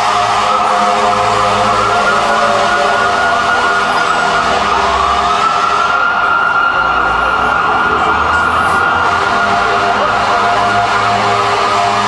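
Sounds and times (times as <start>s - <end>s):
emergency sirens wailing: 0.0s - 12.0s.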